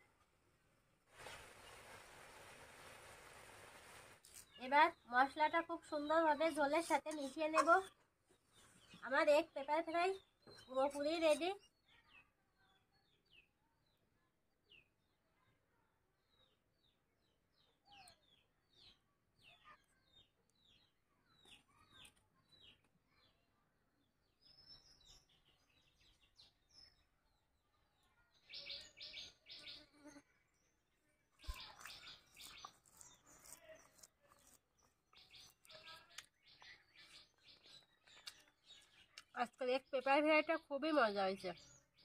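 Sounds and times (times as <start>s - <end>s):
faint birds chirping: 4.2s - 42.0s.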